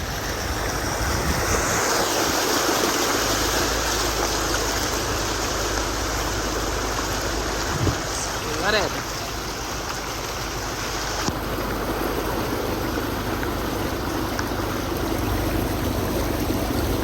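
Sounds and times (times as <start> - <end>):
floodwater splashing around car: 0.0 - 17.0.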